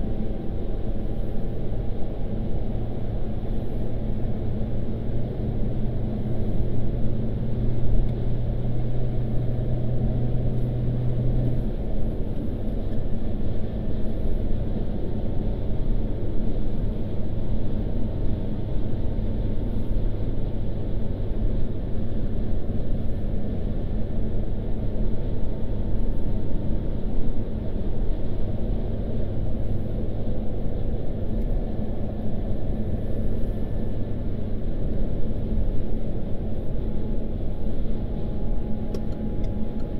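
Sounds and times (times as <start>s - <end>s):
car cabin road and engine noise: 0.0s - 39.9s.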